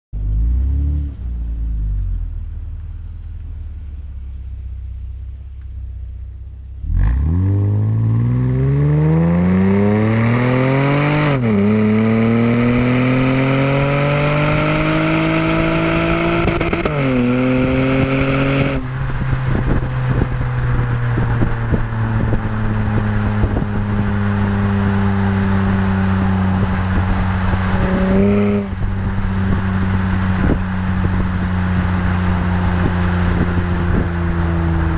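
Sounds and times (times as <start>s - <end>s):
car engine revving with upshifts: 6.7s - 34.9s.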